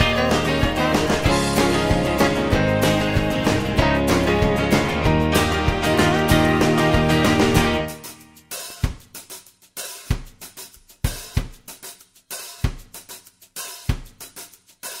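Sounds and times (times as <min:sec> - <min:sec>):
drum kit playing a steady beat: 0:00.0 - 0:15.0.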